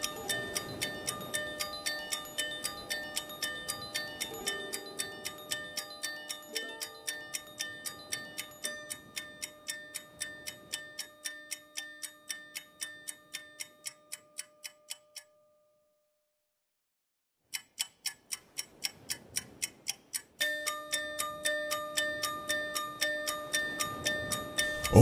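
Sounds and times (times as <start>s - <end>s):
ticking clock-like beat: 0.0s - 15.3s, 17.5s - 25.0s.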